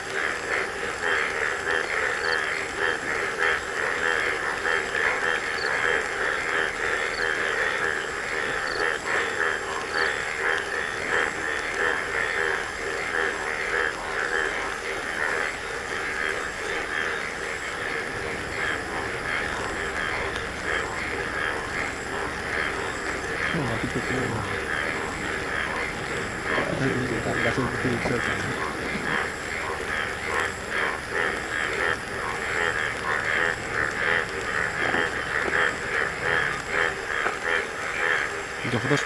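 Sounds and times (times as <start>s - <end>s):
chorus of frogs calling: 0.0s - 39.0s.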